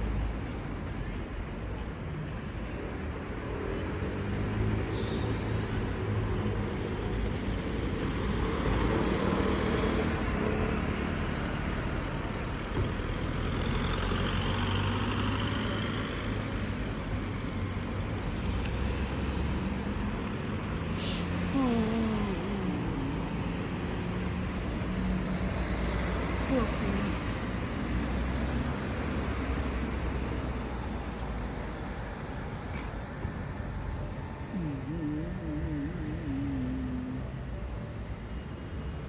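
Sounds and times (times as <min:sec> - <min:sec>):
passing traffic rumble: 0:05.7 - 0:39.0.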